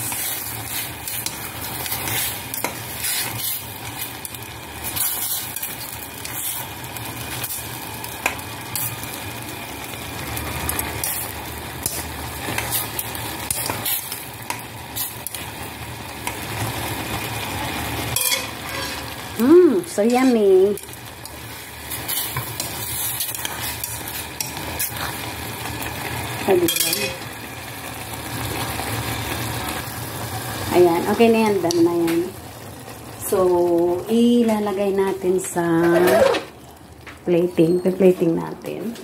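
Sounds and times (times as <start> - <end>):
broth boiling in a saucepan: 0.0 - 39.0.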